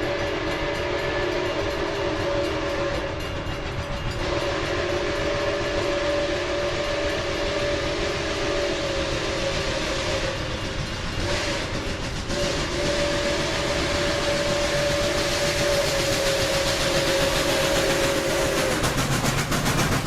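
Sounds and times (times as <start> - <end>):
train whistle blast: 0.0 - 19.3.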